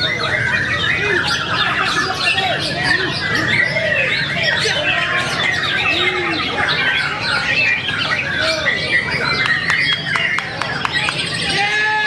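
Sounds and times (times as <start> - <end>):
people's voices: 0.0 - 12.0
songbirds singing: 0.0 - 12.0.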